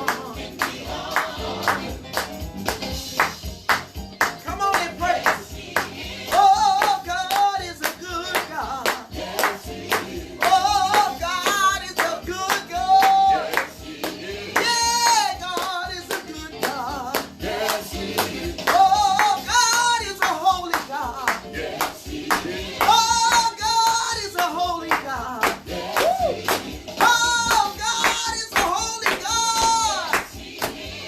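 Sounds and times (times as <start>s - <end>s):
person singing over music: 0.0s - 3.6s, 4.2s - 31.0s
sharp hand claps: 0.0s - 17.4s, 18.2s - 30.9s.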